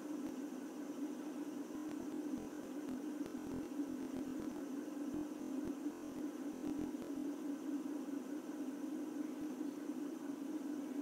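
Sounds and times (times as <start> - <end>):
fidget spinner humming: 0.0 - 11.0.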